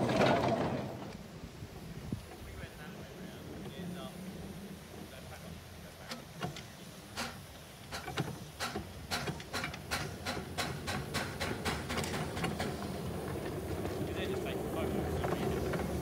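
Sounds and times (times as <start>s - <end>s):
steam locomotive exhaust chuffing: 1.2s - 16.0s.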